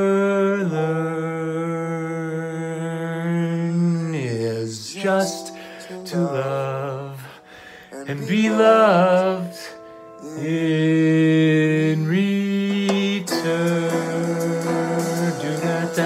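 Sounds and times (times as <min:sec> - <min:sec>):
man singing wordless notes: 0:00.0 - 0:16.0.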